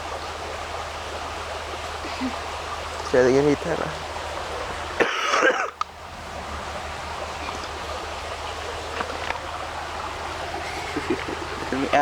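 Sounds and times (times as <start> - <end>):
creek flowing over rocks: 0.0 - 12.0.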